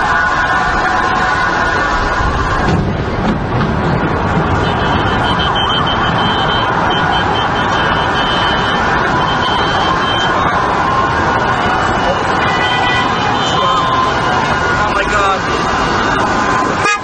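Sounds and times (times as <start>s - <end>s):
city street noise: 0.0s - 17.0s
sirens wailing: 0.0s - 17.0s.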